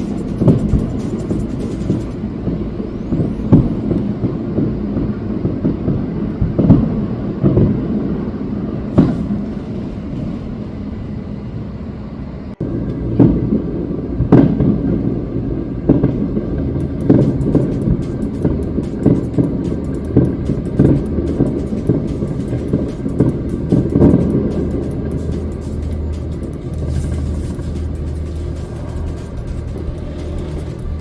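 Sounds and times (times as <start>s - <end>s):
fireworks booming: 0.0s - 12.0s, 12.6s - 31.0s
steady low rumble: 0.0s - 31.0s.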